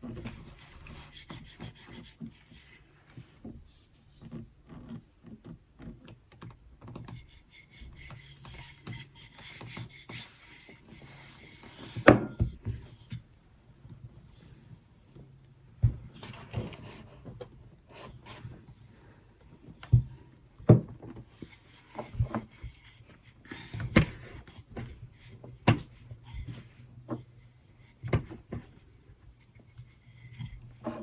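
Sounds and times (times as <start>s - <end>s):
soft rubbing of dough: 0.0s - 5.0s, 7.1s - 31.0s.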